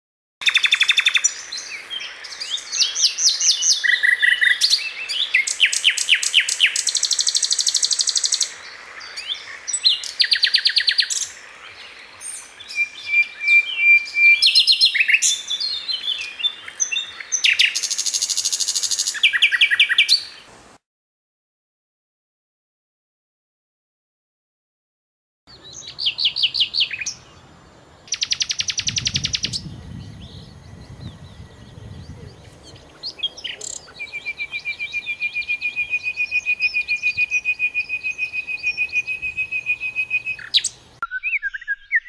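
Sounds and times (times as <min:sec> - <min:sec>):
nightingale singing: 0:00.4 - 0:20.5, 0:25.5 - 0:42.0.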